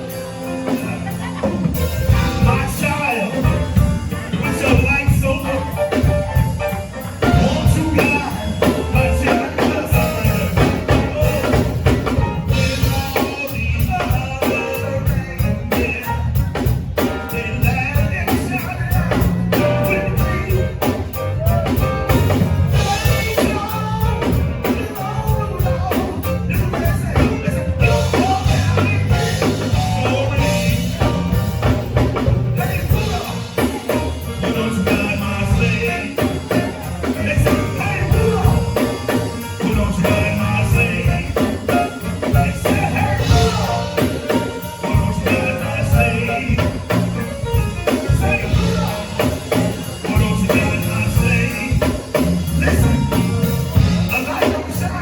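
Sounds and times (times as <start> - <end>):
bass guitar: 0.0 - 55.0
drum kit beat: 0.0 - 55.0
live band playing gospel music: 0.0 - 55.0
person singing: 0.0 - 55.0.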